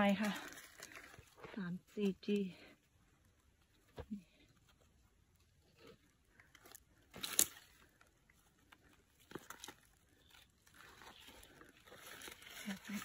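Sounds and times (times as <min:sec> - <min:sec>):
leaves and stems crackling: 0:00.0 - 0:13.0.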